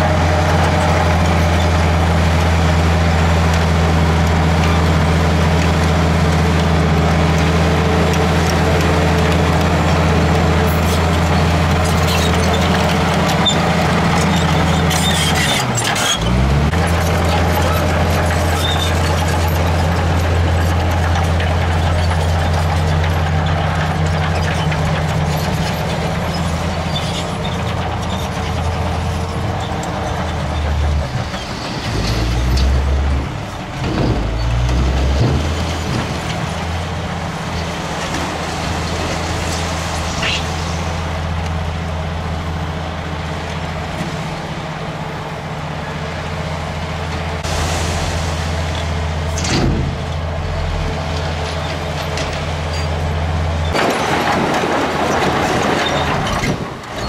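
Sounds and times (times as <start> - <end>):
bulldozer diesel engine under load: 0.0 - 57.0
dump truck diesel engine: 0.0 - 57.0
rocks and earth sliding: 0.1 - 42.6, 47.2 - 57.0.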